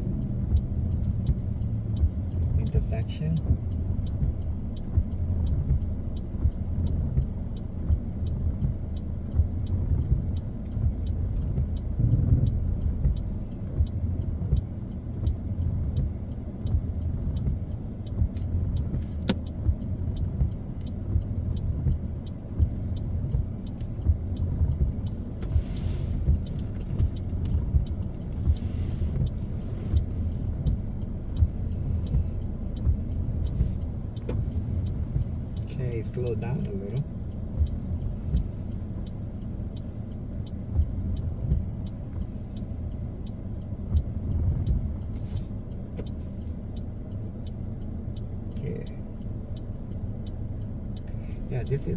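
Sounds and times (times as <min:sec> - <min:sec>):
engine and tyres rumble: 0:00.0 - 0:51.9
faint regular ticking: 0:00.0 - 0:51.9.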